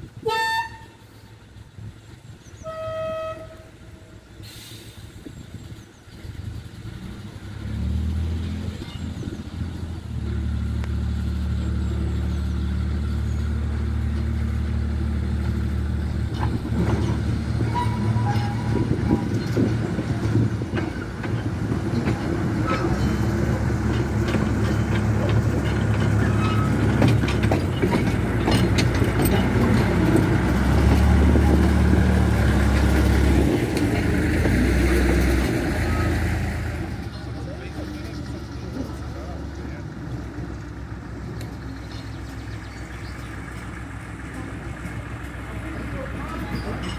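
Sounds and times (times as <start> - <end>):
diesel locomotive engine: 0.0 - 46.9
wheels clanking over rail joints: 0.0 - 46.9.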